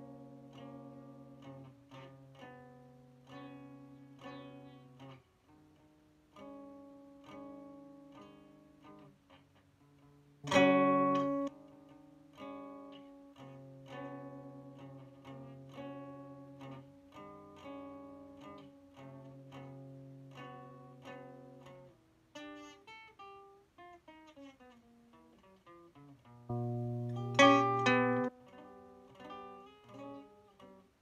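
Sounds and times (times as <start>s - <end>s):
nylon-string guitar plucked: 0.0s - 30.9s.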